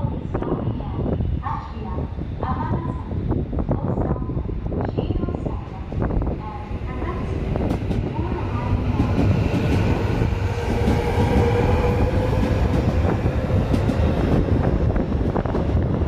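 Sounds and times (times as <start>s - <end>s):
train cars rumbling: 0.0s - 16.0s.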